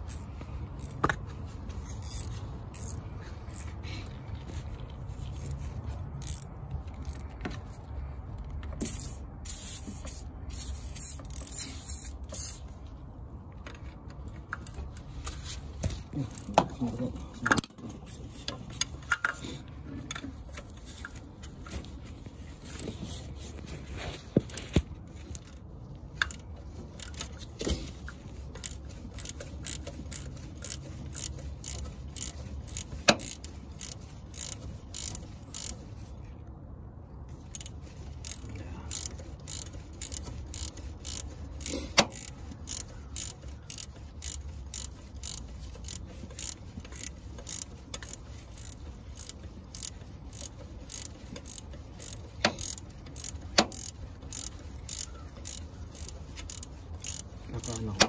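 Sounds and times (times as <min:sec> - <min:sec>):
ratchet wrench clicking: 0:00.0 - 0:07.4, 0:08.8 - 0:12.7, 0:13.6 - 0:17.7, 0:18.4 - 0:23.2, 0:24.4 - 0:36.0, 0:37.3 - 0:58.0.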